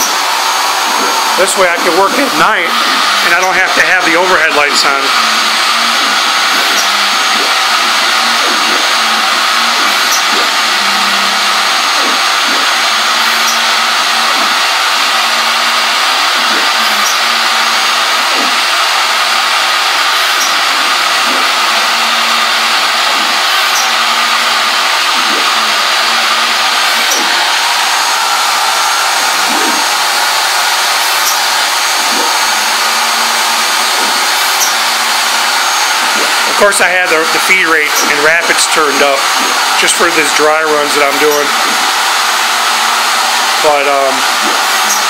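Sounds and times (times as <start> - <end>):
router spindle motor whir: 0.0 - 45.0
stepper motor tones: 0.0 - 45.0.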